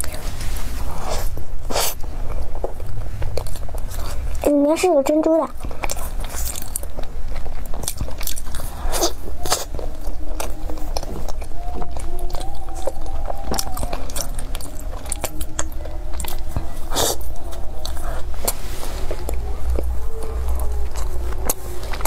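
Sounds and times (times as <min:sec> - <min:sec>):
chewing with wet mouth clicks: 0:01.7 - 0:22.0.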